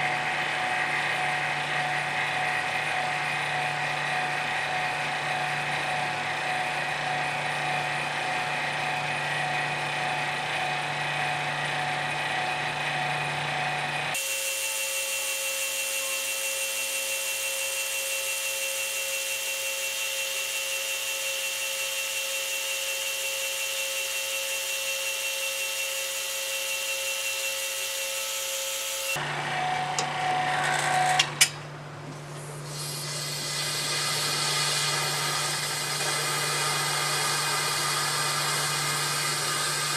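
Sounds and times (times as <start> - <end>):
vacuum pump running: 0.0 - 39.9.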